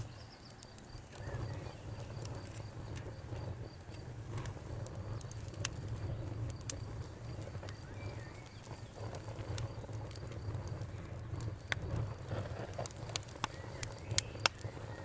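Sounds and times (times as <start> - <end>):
faint insect trill: 0.0 - 12.1
campfire crackling: 0.0 - 15.0
fire popping sharply: 0.0 - 15.0.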